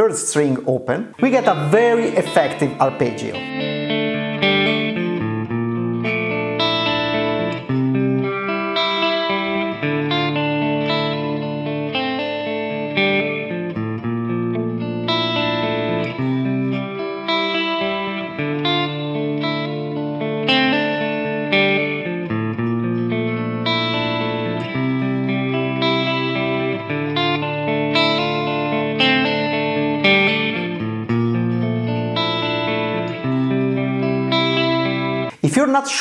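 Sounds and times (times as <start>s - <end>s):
electric guitar arpeggios: 1.0s - 35.4s.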